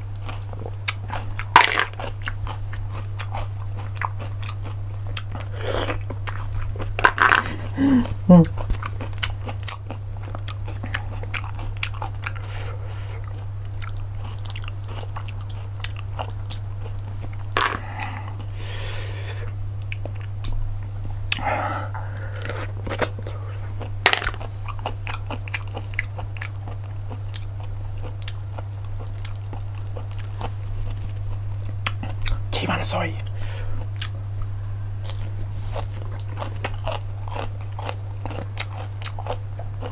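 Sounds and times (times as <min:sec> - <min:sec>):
chewing shellfish: 0:00.0 - 0:32.5, 0:33.2 - 0:39.9
steady low hum: 0:00.0 - 0:39.9.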